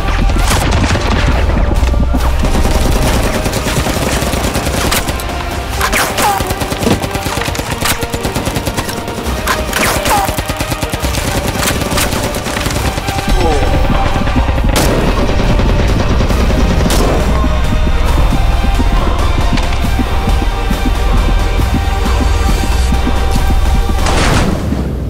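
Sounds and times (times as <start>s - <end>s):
background music: 0.0s - 25.0s.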